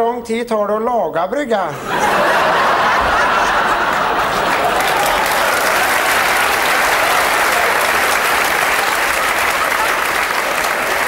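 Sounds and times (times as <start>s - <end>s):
audience applauding: 1.9s - 11.0s.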